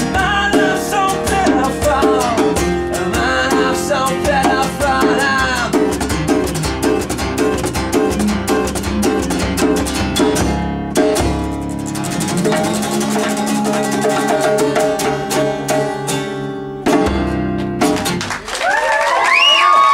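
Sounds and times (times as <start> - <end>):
strummed acoustic guitar: 0.0 - 18.4
drums: 0.0 - 18.5.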